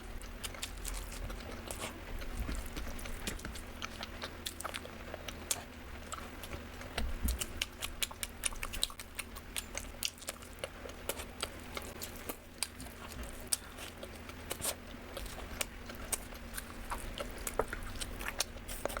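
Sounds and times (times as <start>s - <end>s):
crisp chewing and biting: 0.0s - 19.0s.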